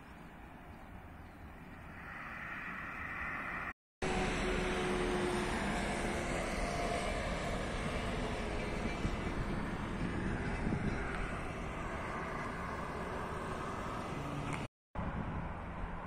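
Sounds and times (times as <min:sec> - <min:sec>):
trucks passing on road: 0:00.1 - 0:16.0.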